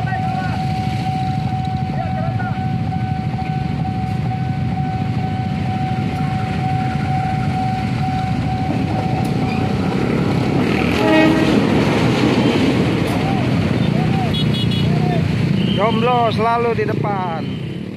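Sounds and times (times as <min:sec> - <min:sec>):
locomotive rumbling: 0:00.0 - 0:17.9.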